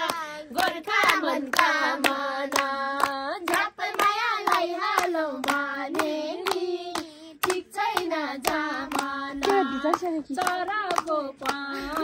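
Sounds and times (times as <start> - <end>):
hand-clapping: 0.0 - 12.0
women and girls singing: 0.0 - 12.0.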